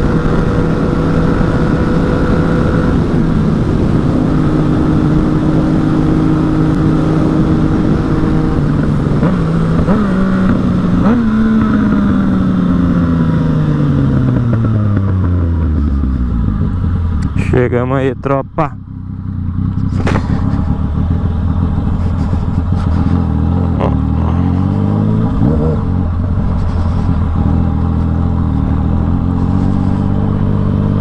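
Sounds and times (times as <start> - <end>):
motorcycle engine running loud: 0.0 - 31.0.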